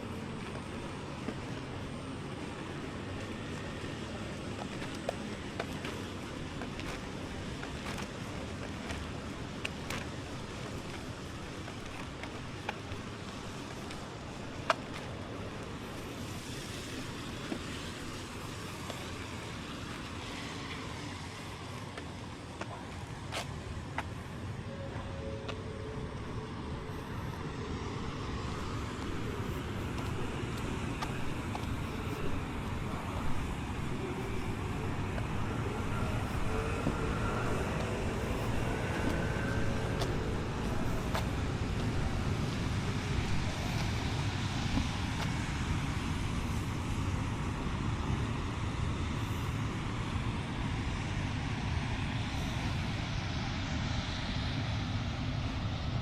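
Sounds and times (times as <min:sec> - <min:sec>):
road traffic: 0:00.0 - 0:56.0
vehicle approaching: 0:00.0 - 0:56.0.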